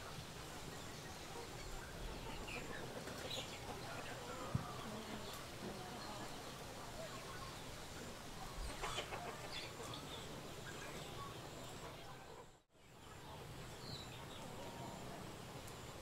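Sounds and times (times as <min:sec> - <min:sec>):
chickens clucking: 0:00.0 - 0:16.0
faint yard ambience: 0:00.0 - 0:16.0.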